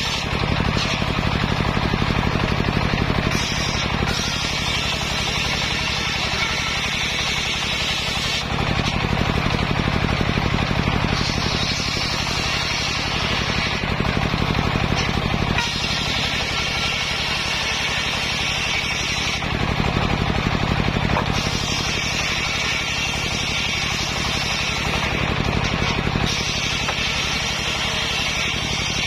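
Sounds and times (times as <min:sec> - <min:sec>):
circular saw blade ripping timber: 0:00.0 - 0:29.0
saw drive pulsing: 0:00.0 - 0:29.0.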